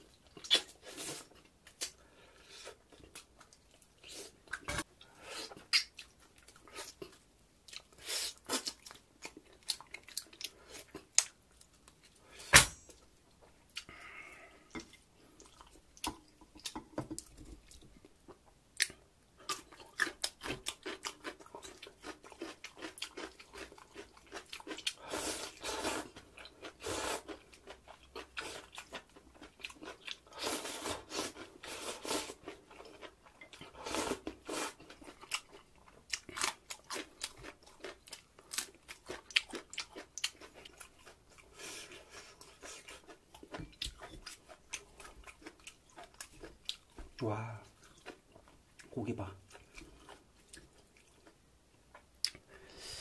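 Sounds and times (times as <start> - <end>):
close chewing and biting: 0.0 - 2.0, 2.7 - 12.3, 14.8 - 52.6.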